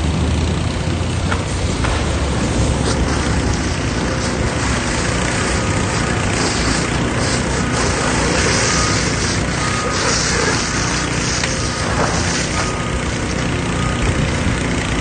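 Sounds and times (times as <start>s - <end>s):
constant rushing noise: 0.0s - 15.0s
fire engine motor running: 0.0s - 15.0s.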